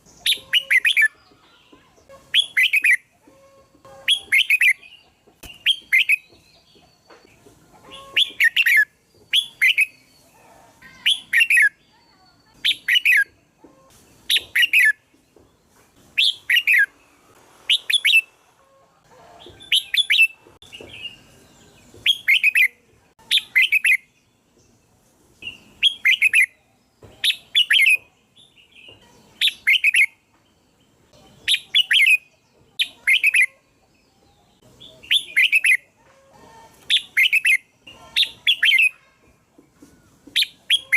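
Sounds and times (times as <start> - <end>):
bulbul singing: 0.0 - 17.0, 19.4 - 24.8, 25.4 - 36.0, 36.8 - 39.3.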